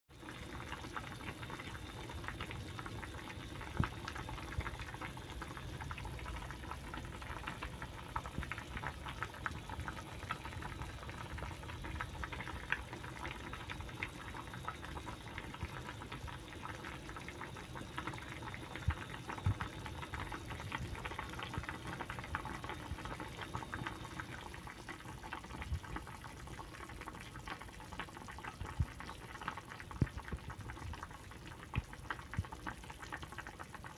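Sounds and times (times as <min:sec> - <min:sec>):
broth boiling and bubbling: 0:00.1 - 0:33.9.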